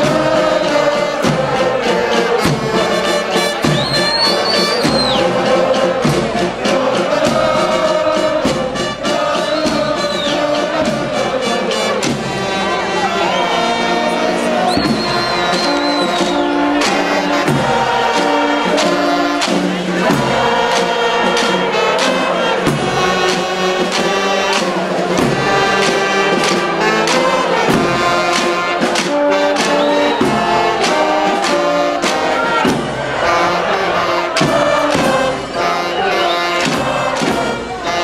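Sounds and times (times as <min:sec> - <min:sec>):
brass band playing: 0:00.0 - 0:38.0
crowd singing along: 0:00.0 - 0:38.0
drum beats: 0:00.0 - 0:38.0.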